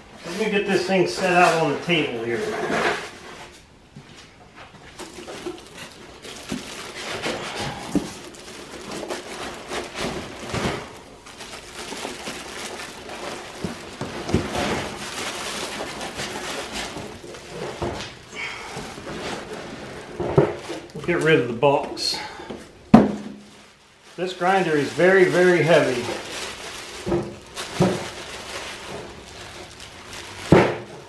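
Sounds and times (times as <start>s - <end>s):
plastic wrapping crinkling: 4.7s - 31.0s.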